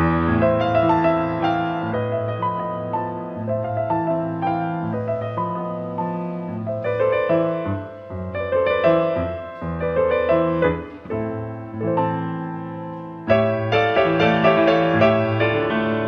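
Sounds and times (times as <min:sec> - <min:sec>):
classical piano piece: 0:00.0 - 0:16.0.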